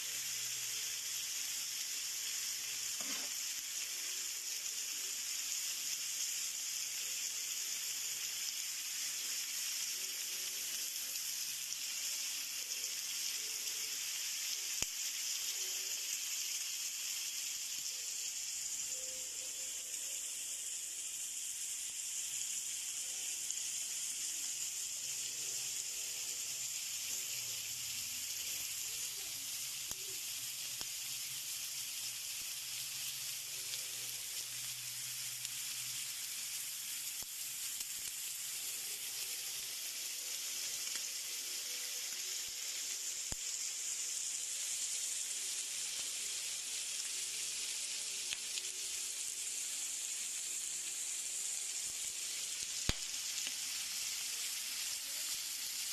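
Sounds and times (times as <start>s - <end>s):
pork sizzling on a grill: 0.0s - 55.9s.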